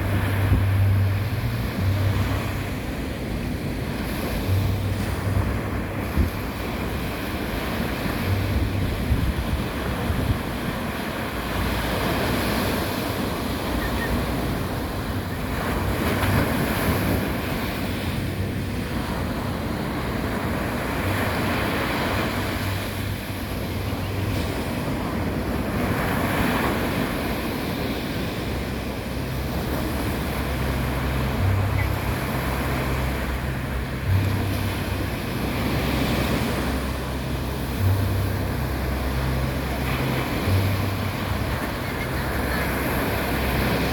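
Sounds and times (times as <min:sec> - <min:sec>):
sea waves on a sandy beach: 0:00.0 - 0:43.9
wind rumbling on microphone: 0:00.0 - 0:43.9.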